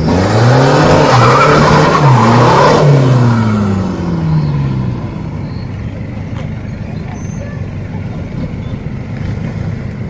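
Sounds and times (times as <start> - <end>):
tyres screeching on asphalt: 0.0 - 9.9
diesel engine revving: 0.0 - 10.0.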